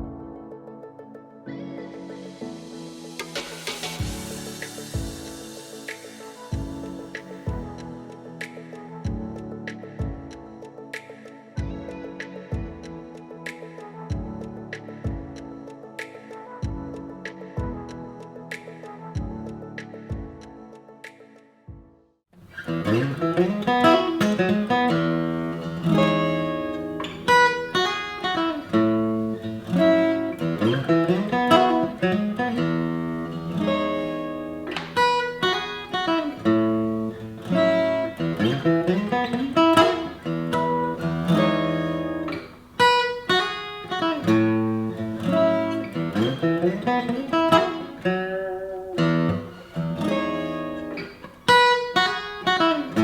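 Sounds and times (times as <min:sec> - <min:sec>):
acoustic guitar music: 0:00.0 - 0:18.0, 0:22.4 - 0:53.0.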